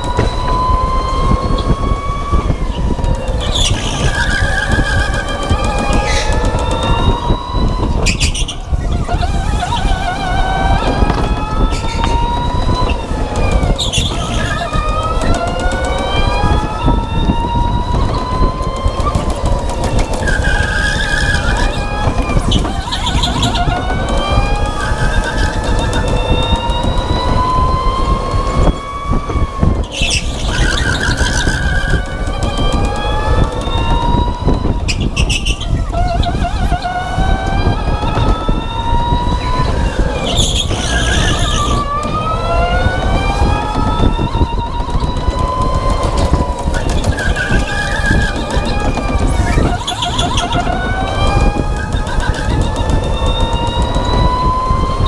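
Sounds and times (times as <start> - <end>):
electric motor whining: 0.0 - 55.0
tyre and track noise: 0.0 - 55.0
tyres squealing: 0.0 - 55.0.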